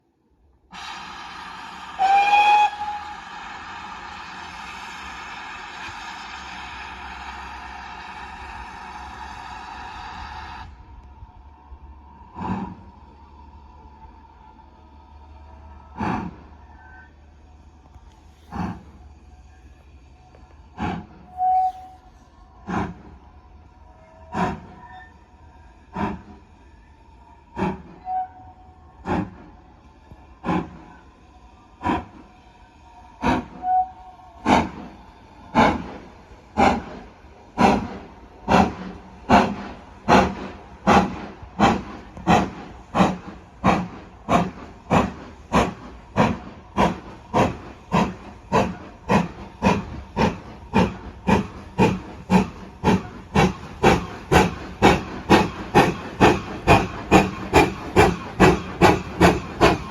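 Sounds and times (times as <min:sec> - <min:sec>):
steam locomotive exhaust chuffs: 0:00.7 - 0:59.9.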